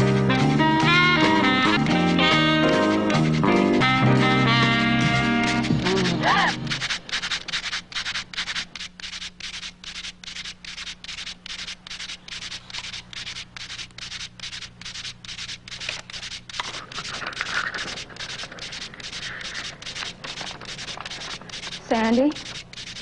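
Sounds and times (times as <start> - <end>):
rhythmic swishing: 0.0 - 23.0.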